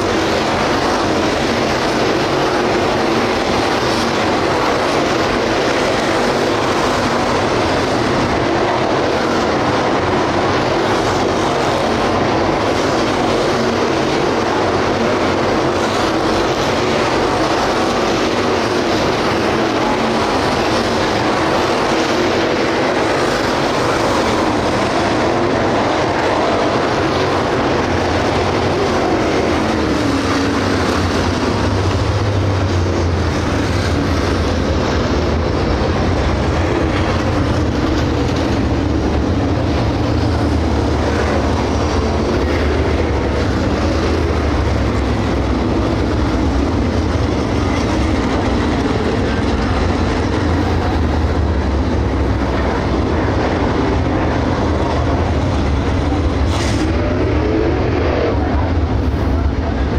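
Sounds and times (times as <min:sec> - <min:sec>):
race car engines rumbling: 0:00.0 - 0:59.9.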